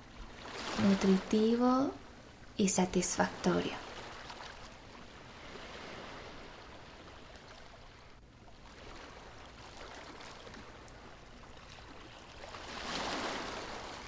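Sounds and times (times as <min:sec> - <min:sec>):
sea waves washing on shore: 0:00.0 - 0:14.0.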